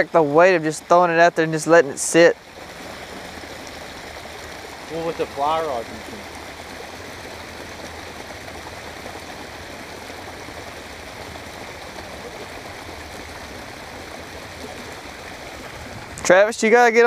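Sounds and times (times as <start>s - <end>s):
water running into pond: 0.0s - 17.0s.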